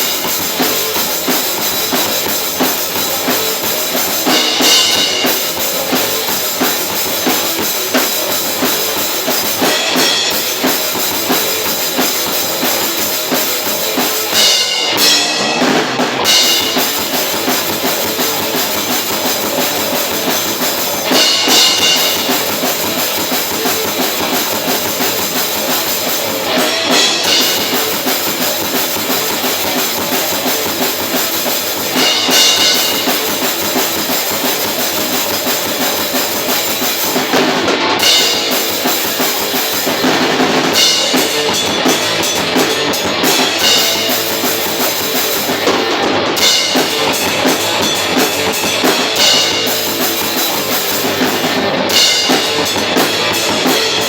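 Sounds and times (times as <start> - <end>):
drum kit with bass drum: 0.0 - 54.0
electric guitar: 0.0 - 54.0.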